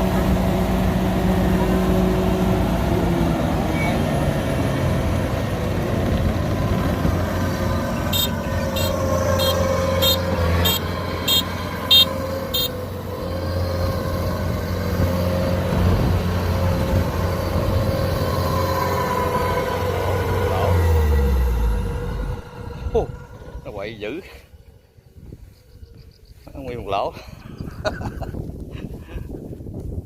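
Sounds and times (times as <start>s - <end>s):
combine harvester diesel engine: 0.0s - 27.4s.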